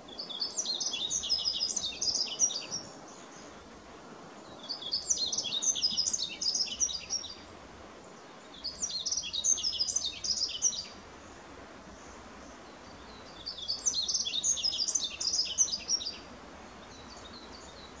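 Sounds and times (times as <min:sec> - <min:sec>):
bird twittering song: 0:00.1 - 0:03.6, 0:04.4 - 0:07.5, 0:08.1 - 0:11.0, 0:12.4 - 0:18.0.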